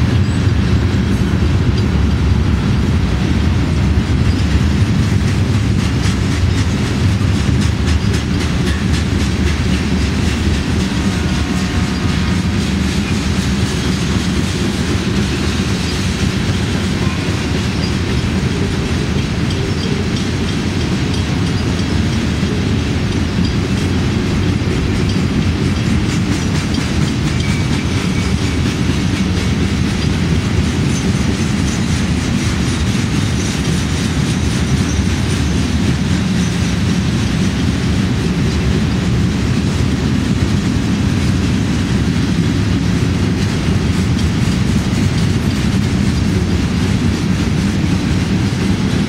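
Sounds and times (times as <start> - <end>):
freight train wheels on rails: 0.0 - 49.0.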